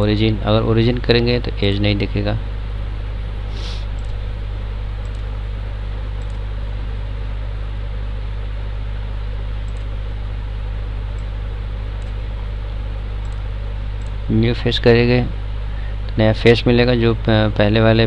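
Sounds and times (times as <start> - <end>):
low electrical hum: 0.0 - 18.0
microphone hiss: 0.0 - 18.0.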